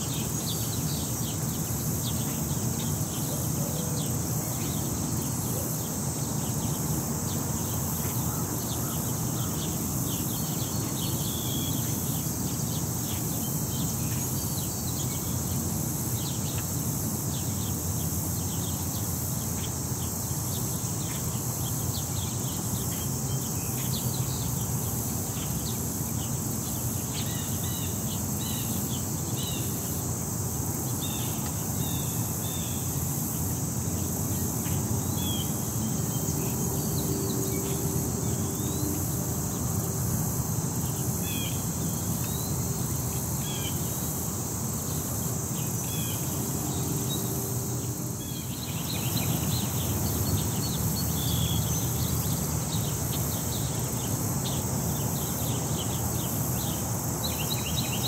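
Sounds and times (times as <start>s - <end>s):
high insect drone: 0.0s - 58.0s
low rumble of city traffic: 0.0s - 58.0s.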